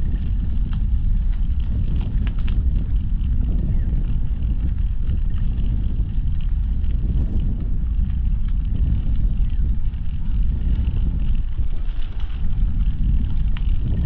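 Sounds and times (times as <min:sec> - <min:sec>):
bicycle tyres on pavement: 0:00.0 - 0:14.0
wind buffeting microphone: 0:00.0 - 0:14.0.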